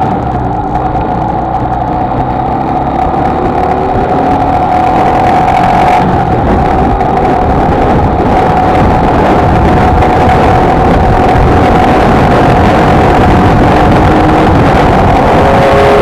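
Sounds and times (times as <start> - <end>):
motorcycle engine cruising: 0.0 - 16.0
wind on microphone: 0.0 - 16.0.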